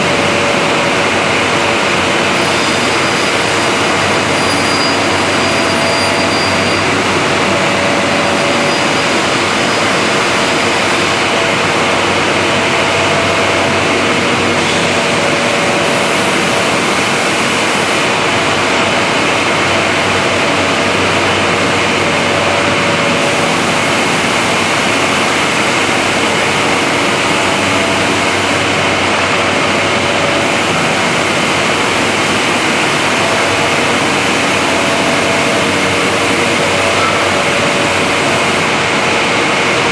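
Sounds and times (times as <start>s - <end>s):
cutting machine running: 0.0s - 39.9s.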